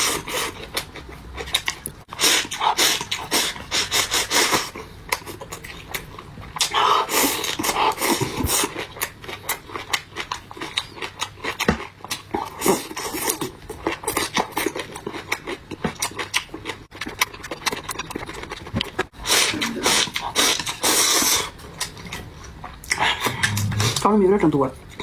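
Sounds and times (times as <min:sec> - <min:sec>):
chewing and crunching vegetables: 0:00.0 - 0:25.0.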